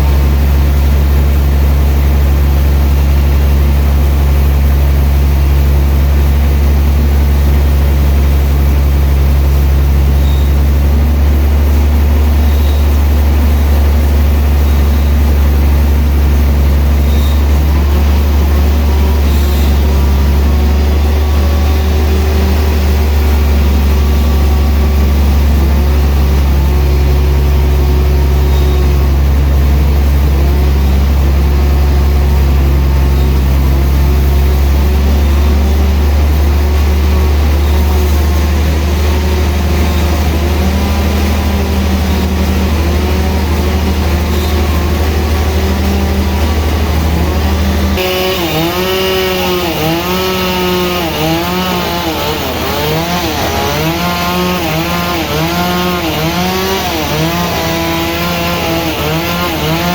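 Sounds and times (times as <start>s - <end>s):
deep steady hum: 0.0s - 59.9s
sawmill saw cutting log: 0.0s - 59.9s.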